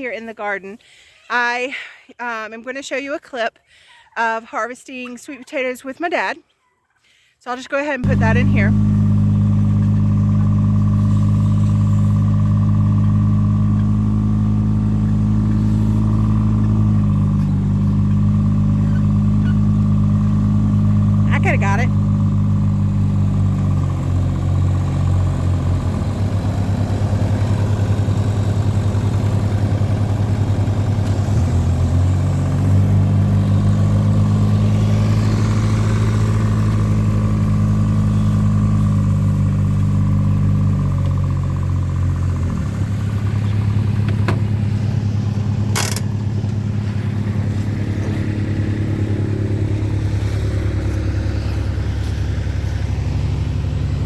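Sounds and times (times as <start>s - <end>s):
engine droning: 8.0s - 54.0s.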